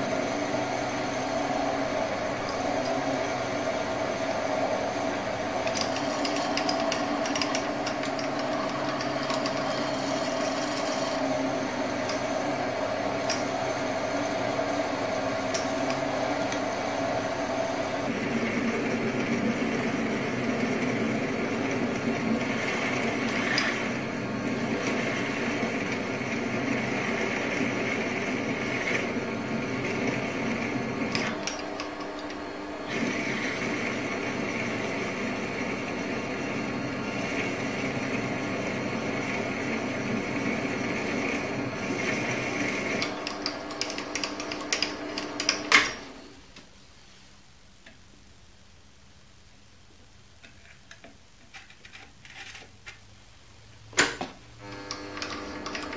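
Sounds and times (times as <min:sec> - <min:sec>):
lathe motor and gear whine: 0:00.0 - 0:46.5, 0:54.1 - 0:55.9.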